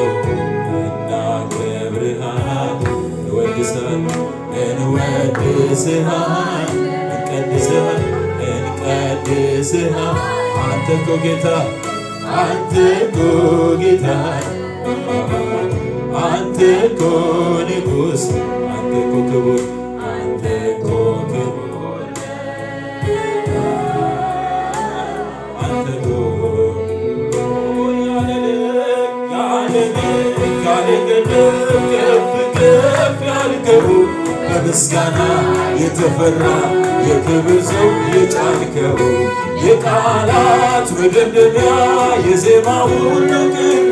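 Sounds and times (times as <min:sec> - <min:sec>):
steady bass line: 0:00.0 - 0:28.6, 0:29.7 - 0:43.9
keyboard accompaniment: 0:00.0 - 0:43.9
man singing into microphone: 0:00.0 - 0:43.9.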